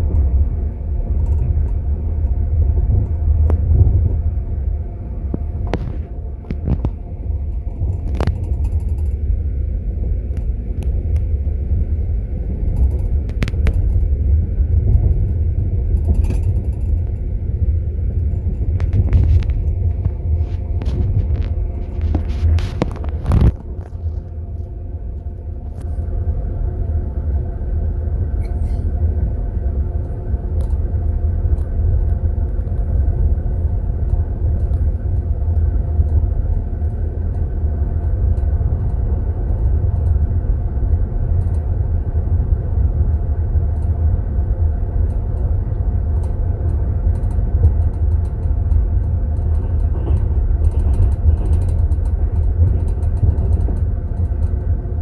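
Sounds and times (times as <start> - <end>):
steady hum: 0.0 - 55.0
train low rumble: 0.0 - 55.0.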